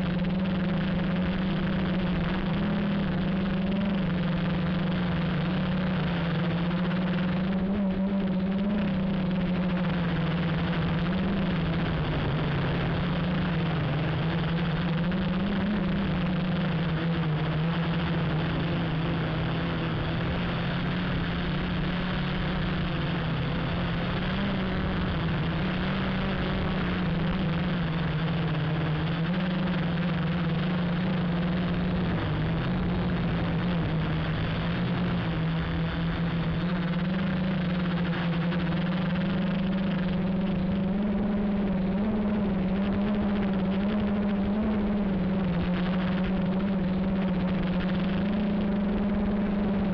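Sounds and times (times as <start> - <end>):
drone motors humming: 0.0 - 49.9.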